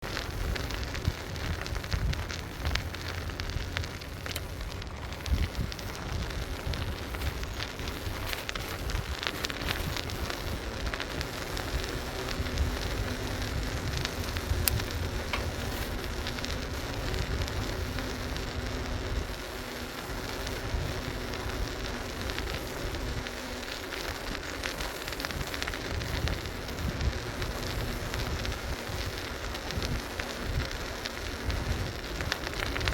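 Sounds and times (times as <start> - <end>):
bicycle tyres rumbling on pavement: 0.0 - 32.9
small crackles and rattles: 0.0 - 32.9
wind on microphone: 0.0 - 32.9.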